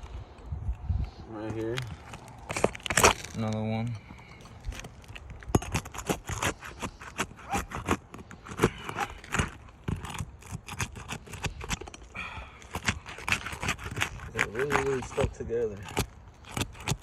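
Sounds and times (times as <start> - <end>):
roof shingles being pried up: 1.8 - 3.4, 4.2 - 17.0.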